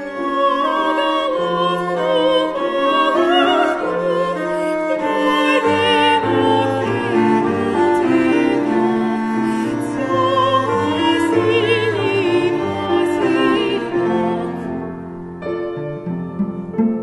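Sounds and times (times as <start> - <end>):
woman singing with vibrato: 0.0 - 14.7
bowed cello: 0.0 - 17.0
piano: 0.0 - 17.0.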